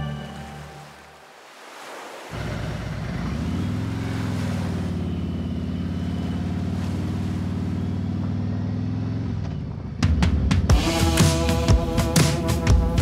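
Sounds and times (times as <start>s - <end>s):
wind and road noise: 0.0s - 11.0s
motorcycle engine running: 2.4s - 13.0s.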